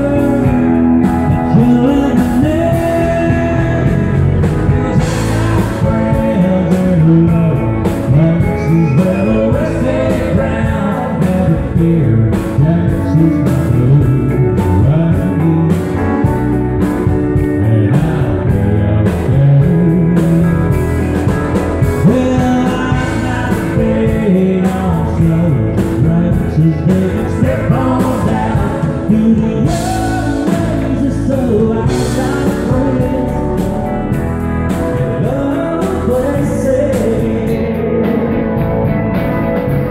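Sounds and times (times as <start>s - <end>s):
man singing: 0.0s - 39.0s
country band playing: 0.0s - 39.9s
drums: 0.0s - 39.9s
pedal steel guitar: 0.0s - 39.9s.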